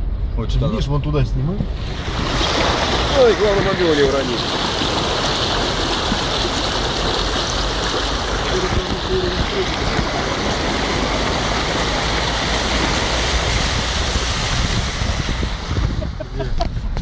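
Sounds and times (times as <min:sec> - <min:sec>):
car driving through floodwater: 0:00.4 - 0:17.0.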